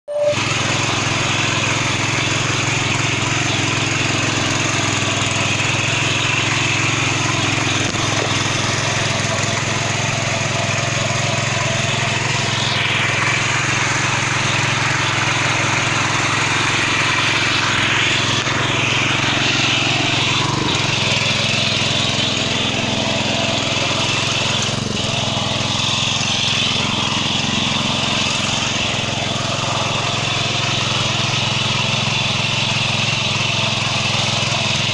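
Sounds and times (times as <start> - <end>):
petrol power weeder running: 0.1 - 34.9
rotary tines tilling soil: 0.1 - 34.9.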